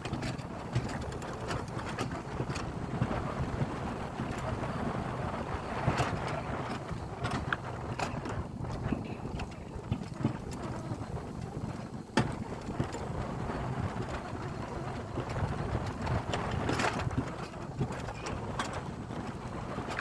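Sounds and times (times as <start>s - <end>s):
sled wheels rumbling on rails: 0.0s - 20.0s
wind on microphone: 0.0s - 20.0s.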